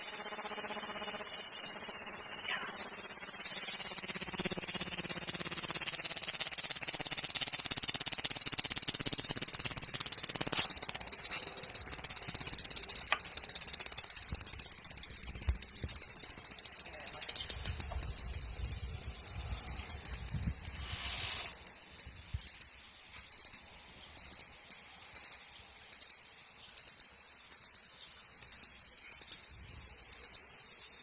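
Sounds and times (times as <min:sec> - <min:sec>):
cicada buzzing: 0:00.0 - 0:31.0.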